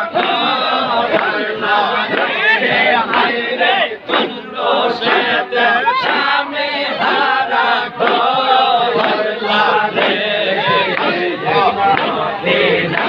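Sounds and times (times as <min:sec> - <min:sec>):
crowd of men chanting: 0:00.0 - 0:13.0.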